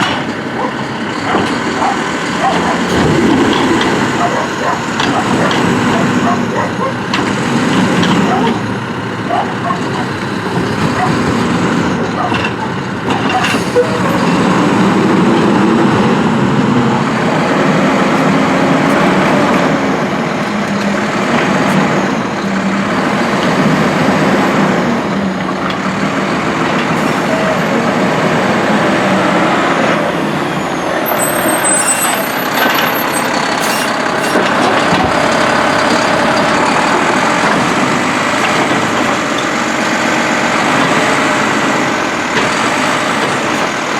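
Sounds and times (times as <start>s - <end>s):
garbage truck diesel engine revving: 0.0s - 43.9s.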